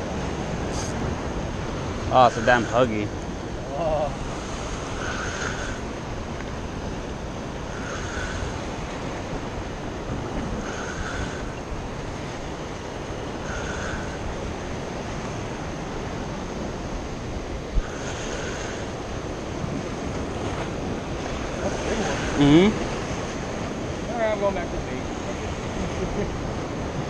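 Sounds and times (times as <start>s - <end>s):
surf washing against rocks: 0.0s - 27.0s.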